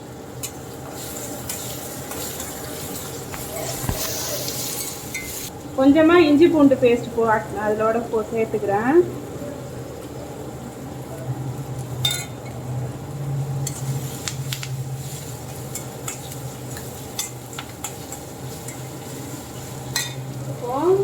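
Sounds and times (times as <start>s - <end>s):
soft sizzle of frying: 0.0s - 21.0s.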